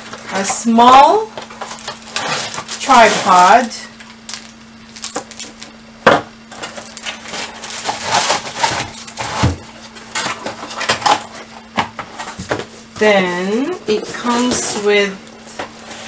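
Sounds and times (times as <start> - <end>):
plastic bag rustling: 0.0 - 5.8, 6.5 - 16.0.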